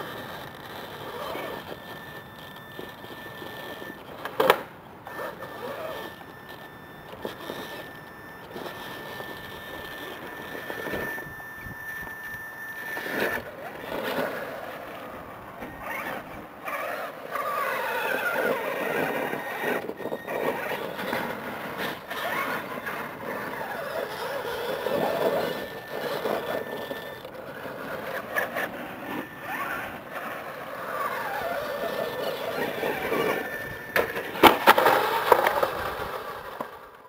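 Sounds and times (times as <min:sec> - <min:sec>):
electric motors and gears whining: 0:00.0 - 0:37.0.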